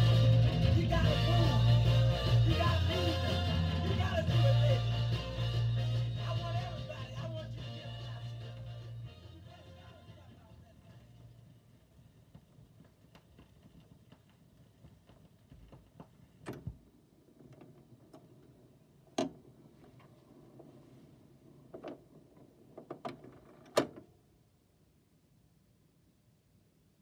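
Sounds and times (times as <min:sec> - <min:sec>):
record player rumble: 0:00.0 - 0:24.1.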